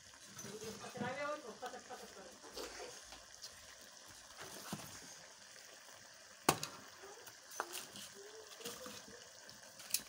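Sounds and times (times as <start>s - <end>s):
curry hissing and simmering: 0.0s - 10.0s.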